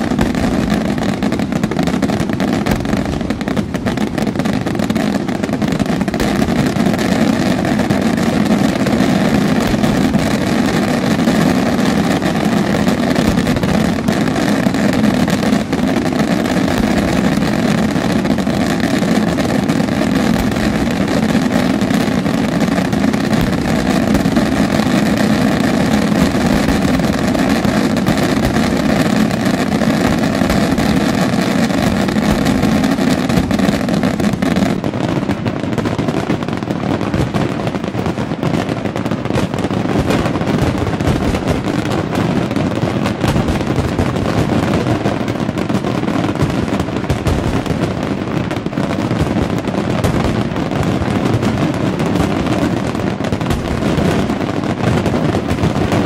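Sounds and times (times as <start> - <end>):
fireworks barrage: 0.0 - 56.0.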